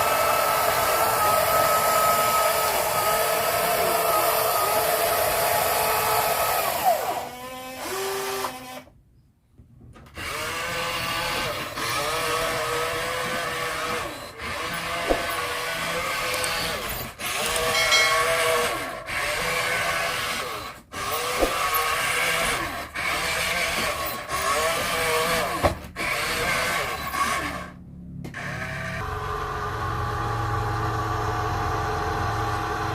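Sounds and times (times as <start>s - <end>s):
small electric motors whining: 0.0s - 8.9s, 10.1s - 32.9s.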